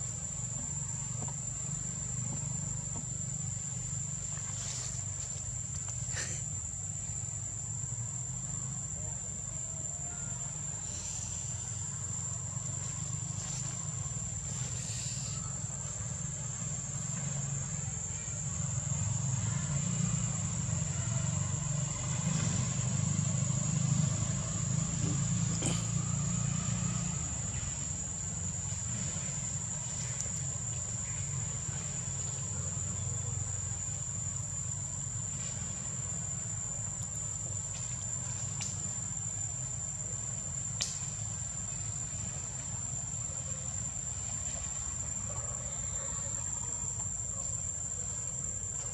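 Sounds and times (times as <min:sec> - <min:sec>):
insect high-pitched whine: 0:00.0 - 0:48.9.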